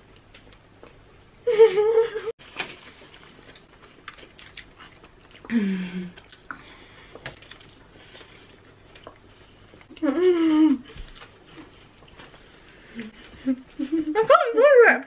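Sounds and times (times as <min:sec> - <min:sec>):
people chewing food: 0:00.0 - 0:14.2
muffled hum from full mouth: 0:00.0 - 0:14.3.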